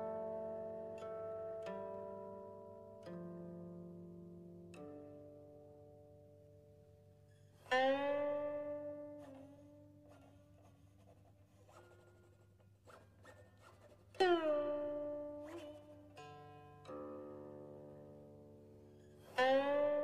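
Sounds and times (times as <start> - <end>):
plucked string instrument music: 0.0 - 20.0.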